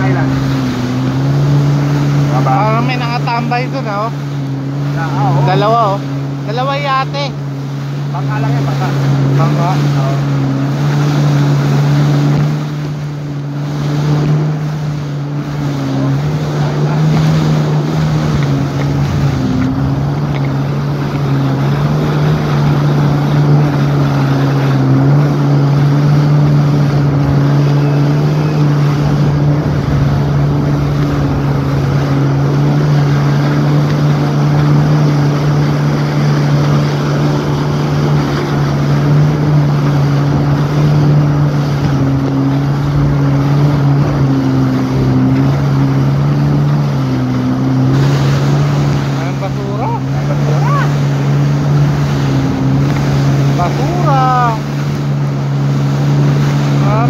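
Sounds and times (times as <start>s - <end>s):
jet ski engine running: 0.0s - 57.0s
water spray rushing: 0.0s - 57.0s
wind on microphone: 11.0s - 57.0s.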